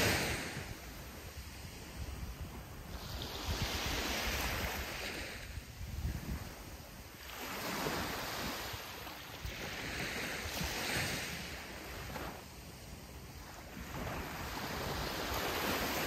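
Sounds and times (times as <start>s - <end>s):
low rumble of surf: 0.0s - 16.0s
waves washing up a beach: 0.0s - 16.0s.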